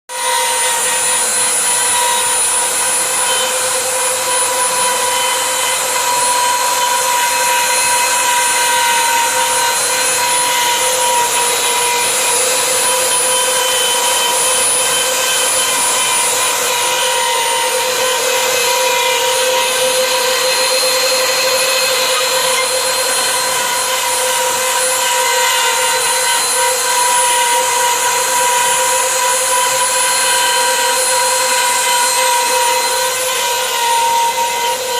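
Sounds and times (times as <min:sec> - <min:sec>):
router spindle whining: 0:00.1 - 0:34.9.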